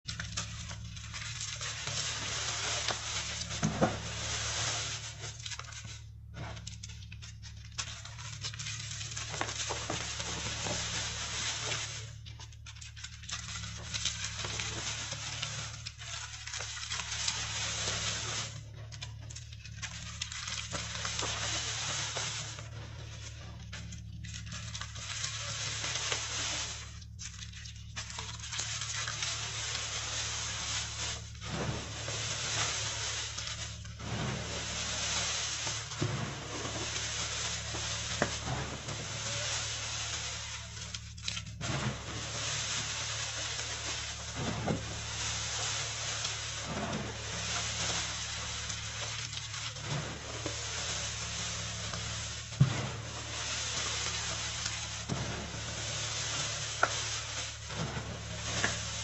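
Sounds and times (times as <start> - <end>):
chalk being crushed: 0.0 - 59.0.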